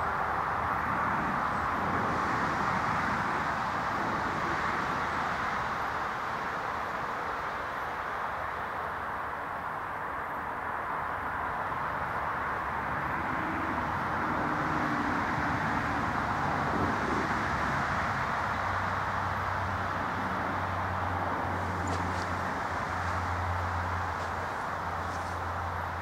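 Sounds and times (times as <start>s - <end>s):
distant traffic rumble: 0.0s - 26.0s.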